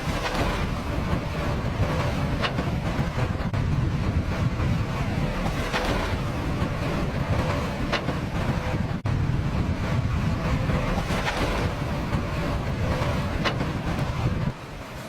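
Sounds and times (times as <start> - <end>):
excavator engine rumbling: 0.0 - 15.0
rushing water: 0.0 - 15.0.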